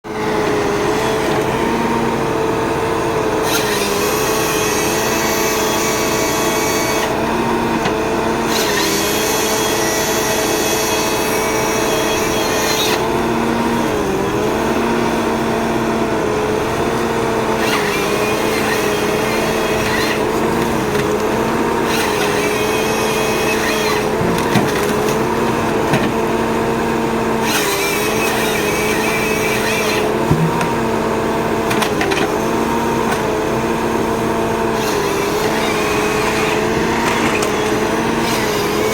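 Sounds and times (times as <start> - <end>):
forest harvester engine humming: 0.0 - 38.9.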